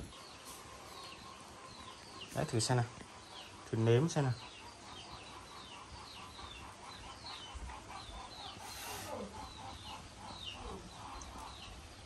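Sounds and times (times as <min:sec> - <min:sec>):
chickens clucking and peeping: 0:00.0 - 0:12.0.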